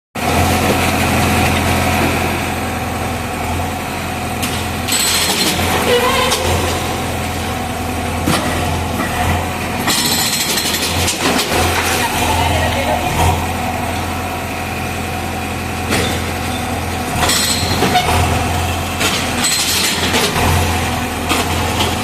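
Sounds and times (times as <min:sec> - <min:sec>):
demolition machine engine running: 0:00.2 - 0:22.0.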